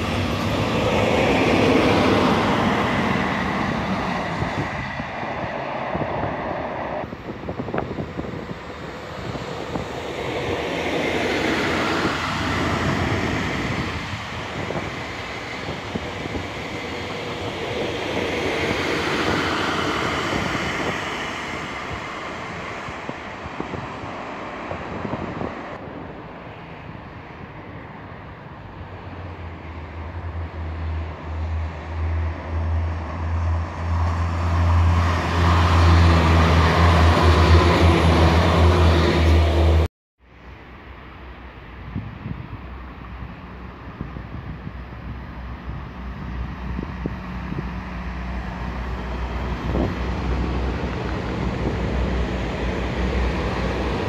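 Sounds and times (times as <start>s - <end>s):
train rolling past on rails: 0.0s - 54.0s.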